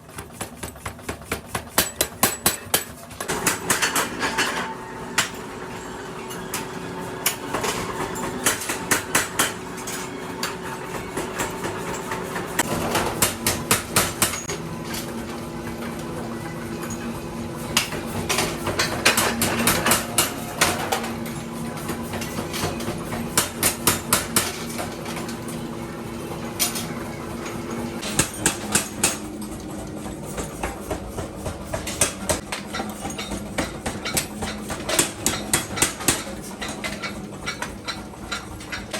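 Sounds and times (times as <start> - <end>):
workshop machine humming: 0.0 - 38.9.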